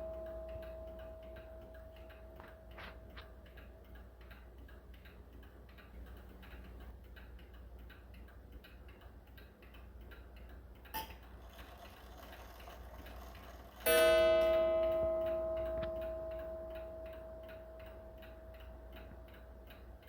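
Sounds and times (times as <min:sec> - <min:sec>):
mantel clock ticking: 0:00.0 - 0:20.0.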